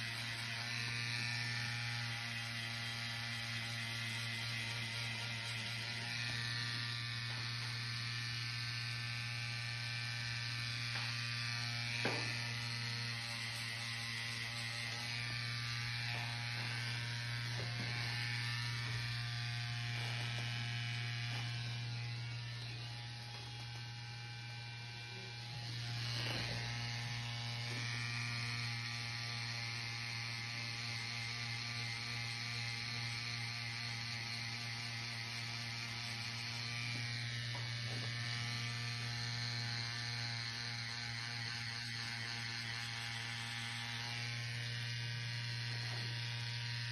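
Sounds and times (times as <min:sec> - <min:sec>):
tattoo machine humming: 0:00.0 - 0:46.9.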